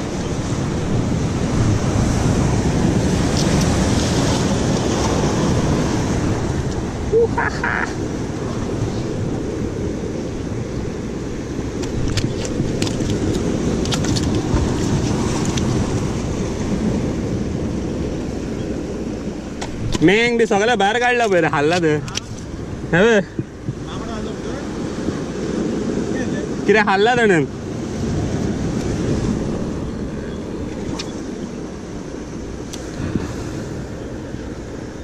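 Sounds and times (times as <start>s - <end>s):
sea surf washing against rocks: 0.0s - 35.0s
wind rumbling on microphone: 0.0s - 35.0s.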